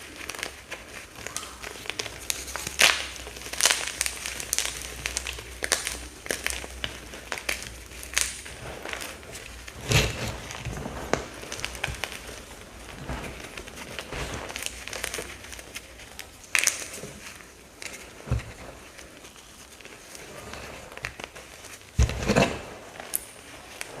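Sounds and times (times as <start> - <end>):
dried paste crunching and crumbling: 0.0 - 24.0.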